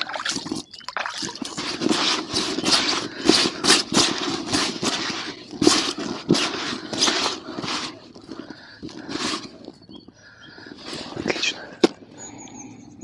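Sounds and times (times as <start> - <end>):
hands scraping and rustling bait: 0.0 - 12.0.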